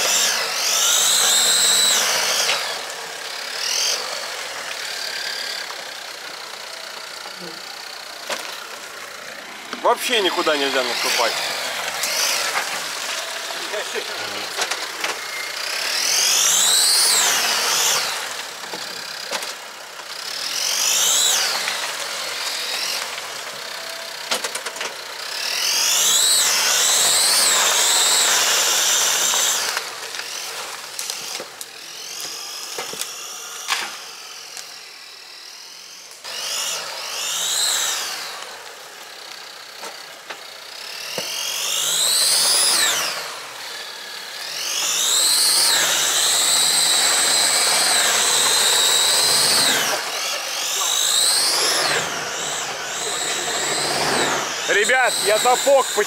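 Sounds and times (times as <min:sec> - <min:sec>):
off-road vehicle whining in mud: 0:00.0 - 0:56.0.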